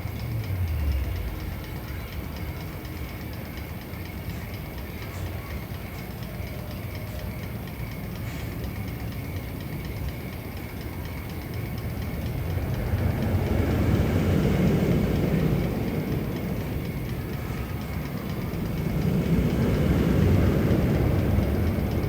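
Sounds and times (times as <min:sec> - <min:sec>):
steady train rumble: 0:00.0 - 0:22.0.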